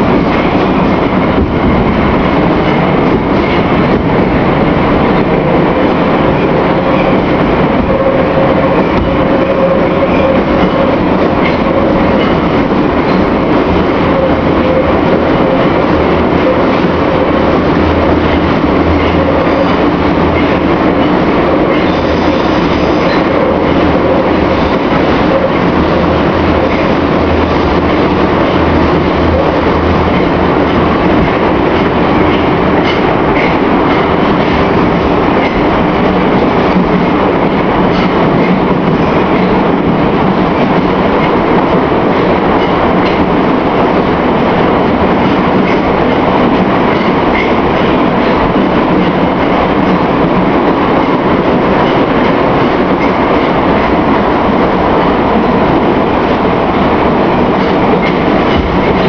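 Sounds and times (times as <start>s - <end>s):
metro wheels on rails: 0.0s - 59.0s.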